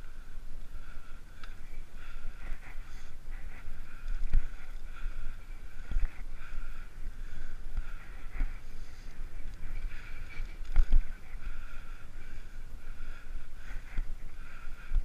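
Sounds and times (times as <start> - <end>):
bicycle tyres rolling on asphalt: 0.0 - 15.0.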